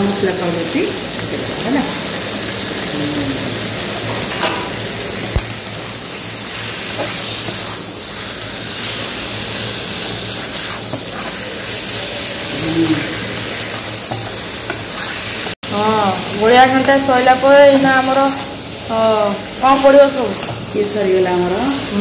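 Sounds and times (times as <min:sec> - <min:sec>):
fish sizzling in a pan: 0:00.0 - 0:22.0.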